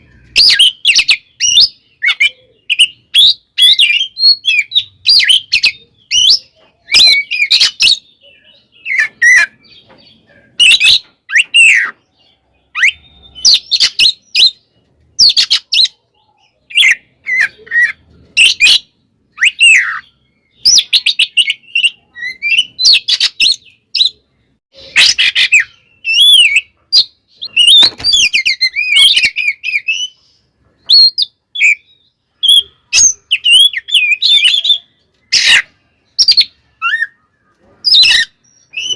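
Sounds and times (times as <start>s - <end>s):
bird singing whistles and trills: 0.0s - 24.2s, 24.8s - 37.2s, 37.8s - 38.9s.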